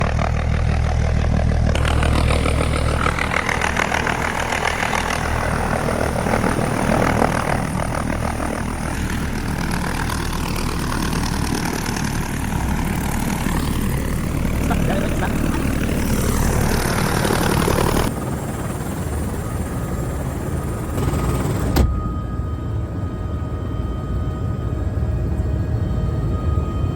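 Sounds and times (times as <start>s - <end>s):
helicopter engine and rotors: 0.0s - 26.9s.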